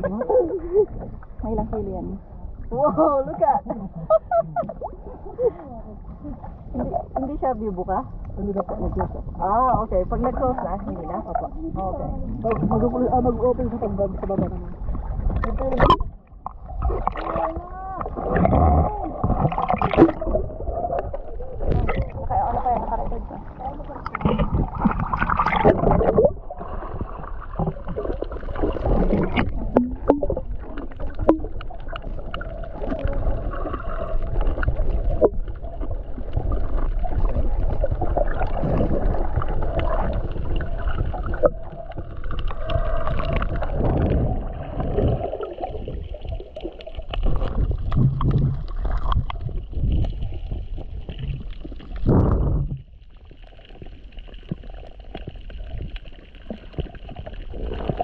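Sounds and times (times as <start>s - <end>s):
muffled underwater rumble: 0.0s - 58.0s
water sloshing: 0.0s - 58.0s.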